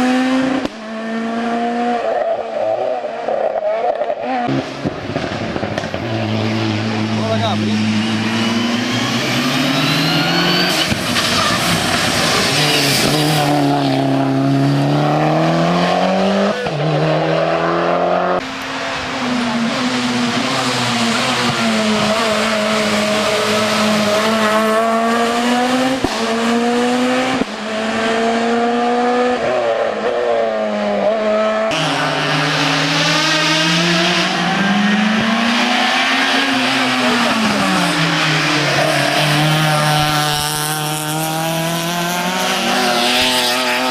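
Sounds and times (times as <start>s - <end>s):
race car engines at high revs: 0.0s - 43.9s.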